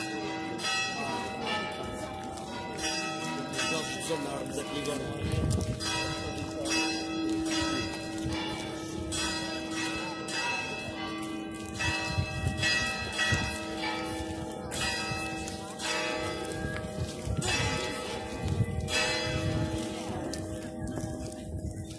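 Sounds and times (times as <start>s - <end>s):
church bells ringing: 0.0s - 21.9s.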